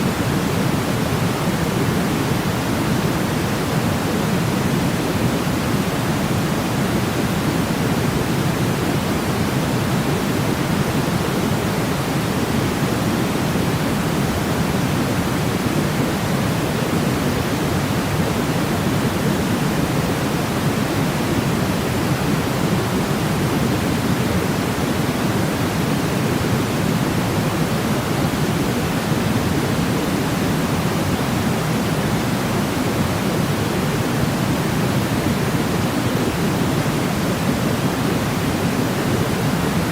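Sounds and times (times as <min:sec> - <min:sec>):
steady white noise shush: 0:00.0 - 0:39.9.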